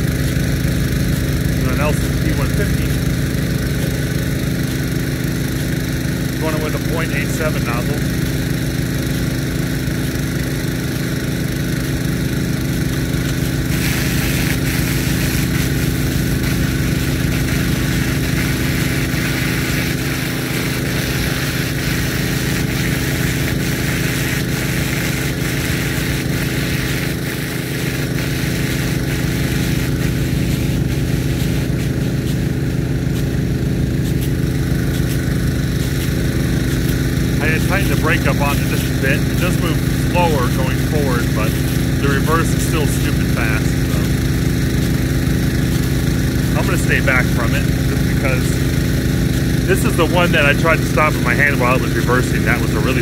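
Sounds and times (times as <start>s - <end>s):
pumps humming: 0.0s - 53.0s
sprinkler water jet hissing: 0.0s - 53.0s.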